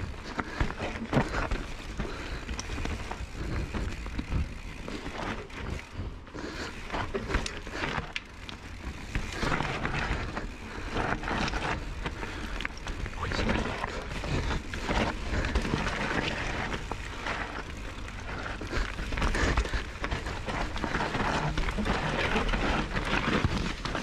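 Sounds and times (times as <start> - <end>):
bike rattling over bumps: 0.0 - 24.0
tyres crunching over stones: 0.0 - 24.0.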